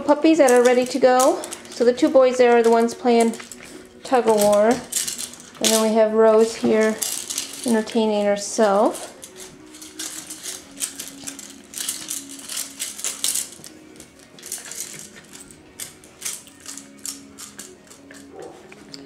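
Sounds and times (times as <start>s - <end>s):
puppies scuffling with toys: 0.0s - 19.0s.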